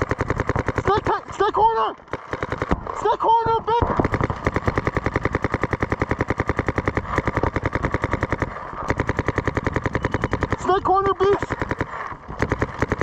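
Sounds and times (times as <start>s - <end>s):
paintball marker firing: 0.0s - 13.0s.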